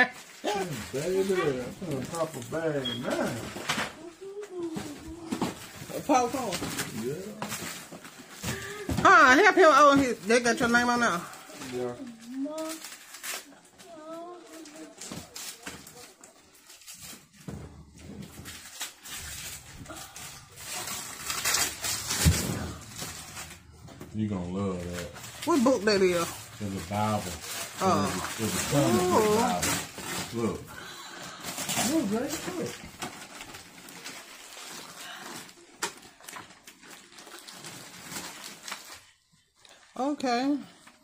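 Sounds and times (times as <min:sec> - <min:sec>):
wrapping paper tearing and crumpling: 0:00.0 - 0:39.9.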